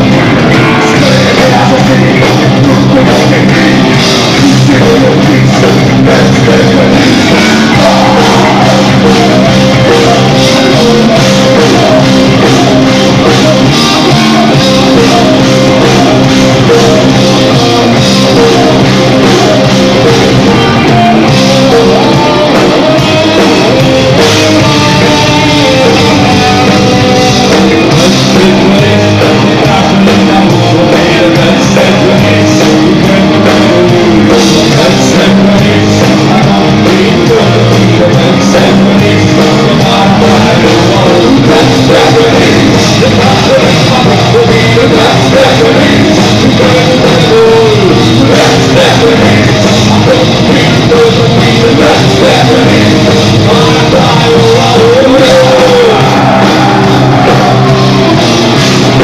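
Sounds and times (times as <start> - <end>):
distorted electric guitars: 0.0 - 59.0
drum kit: 0.0 - 59.0
person singing: 0.0 - 59.0.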